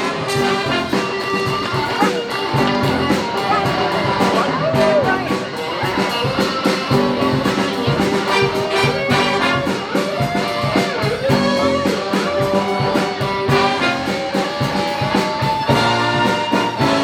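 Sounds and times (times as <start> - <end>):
brass section: 0.0 - 5.6, 7.0 - 10.6, 11.3 - 17.0
jazz big band playing: 0.0 - 17.0
steady drum beat: 0.0 - 17.0.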